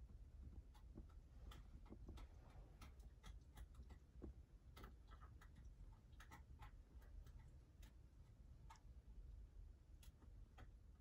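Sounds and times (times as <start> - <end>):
faint small clicks: 0.5 - 9.0, 9.9 - 11.0.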